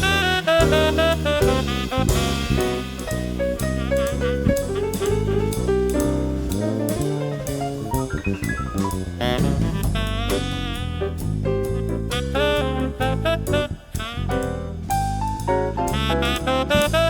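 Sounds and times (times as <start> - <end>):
upbeat jazz with saxophone and drums: 0.0 - 17.0.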